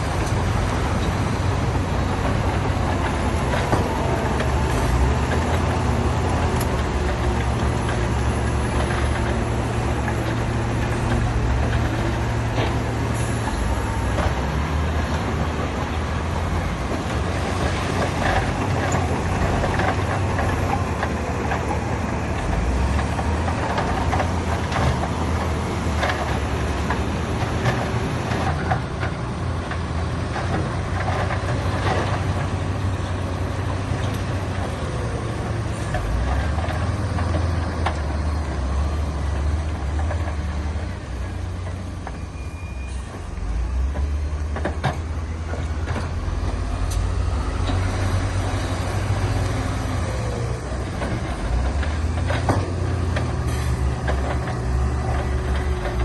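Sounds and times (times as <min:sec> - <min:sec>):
diesel machinery engine running: 0:00.0 - 0:56.0.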